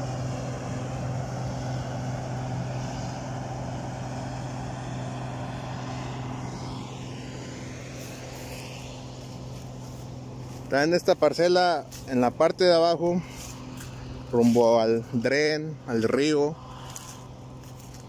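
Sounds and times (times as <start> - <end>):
combine harvester engine hum: 0.0 - 18.0.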